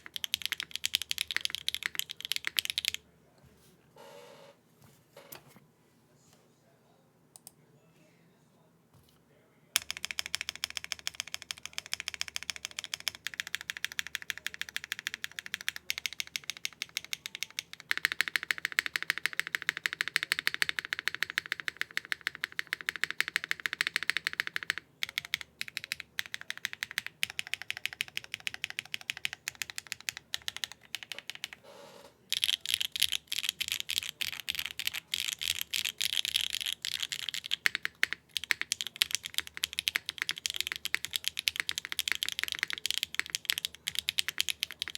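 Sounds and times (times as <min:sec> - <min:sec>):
mechanical keyboard typing: 0:00.0 - 0:03.0, 0:09.8 - 0:31.6, 0:32.3 - 0:44.9.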